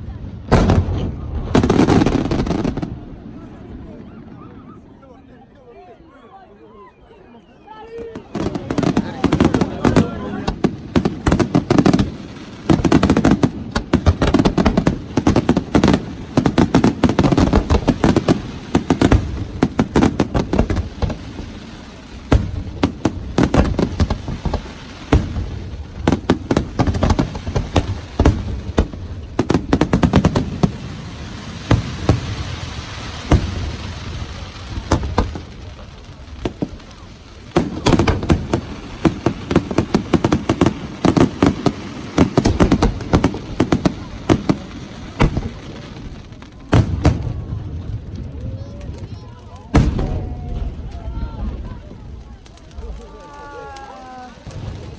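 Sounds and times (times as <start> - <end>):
fireworks bangs and crackling: 0.0 - 5.0, 6.9 - 54.9.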